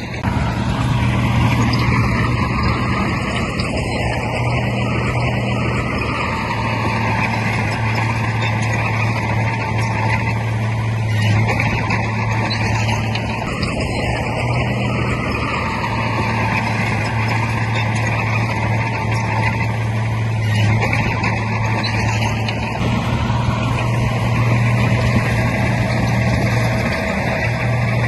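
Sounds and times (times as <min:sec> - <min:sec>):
heavy diesel engine running: 0:00.0 - 0:28.0
mechanical noise: 0:00.0 - 0:28.0.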